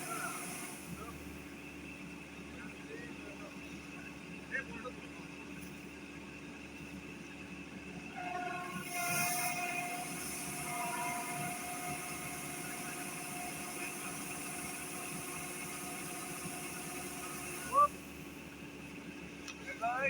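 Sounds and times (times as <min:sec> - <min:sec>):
diesel engine droning with whine: 0:00.0 - 0:20.0.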